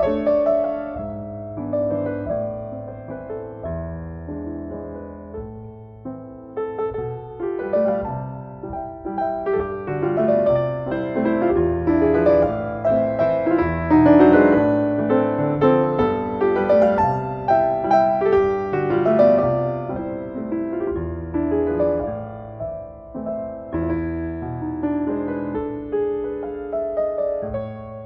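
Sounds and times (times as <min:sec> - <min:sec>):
slow piano piece: 0:00.0 - 0:28.0.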